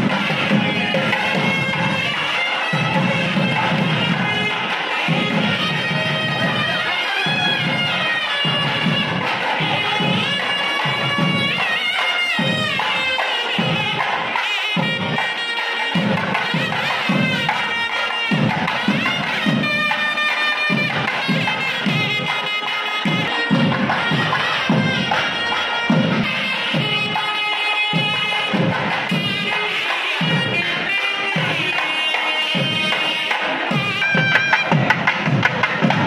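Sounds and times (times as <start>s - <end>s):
double-reed pipes melody: 0.0s - 36.0s
drums beating: 0.0s - 36.0s.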